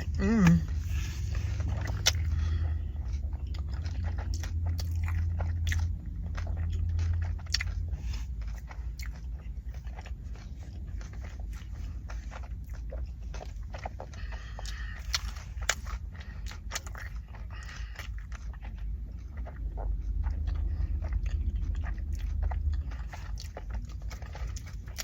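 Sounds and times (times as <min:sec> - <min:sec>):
low hum: 0:00.0 - 0:25.0
mouth chewing food: 0:00.0 - 0:25.0.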